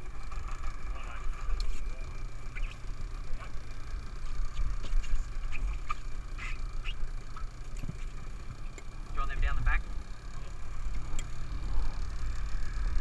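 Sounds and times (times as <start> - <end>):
boat motor rumbling: 0.0 - 13.0
wind: 0.0 - 13.0.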